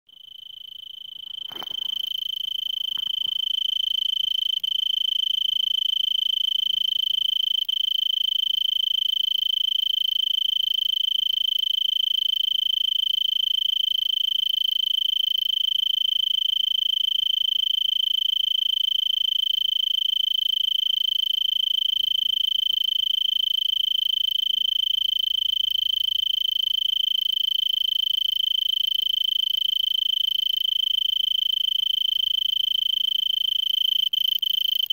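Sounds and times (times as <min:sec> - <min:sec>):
cricket trilling: 0:00.1 - 0:34.9.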